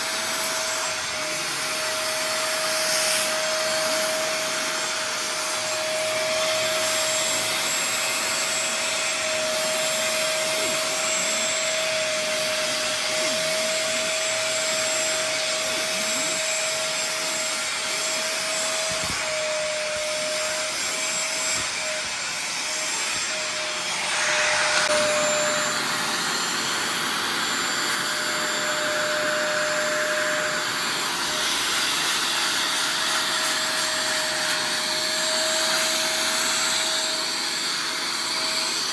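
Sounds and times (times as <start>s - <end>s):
cleaning machine vacuum motor whine: 0.0s - 38.9s.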